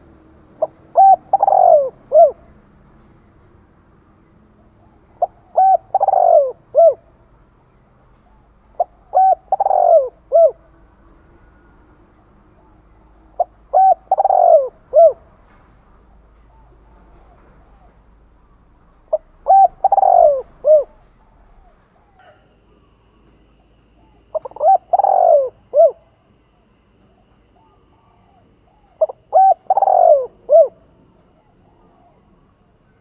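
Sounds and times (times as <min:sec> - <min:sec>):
dove cooing: 0:00.0 - 0:02.6, 0:04.6 - 0:07.3, 0:08.2 - 0:10.7, 0:12.5 - 0:15.3, 0:16.0 - 0:33.0.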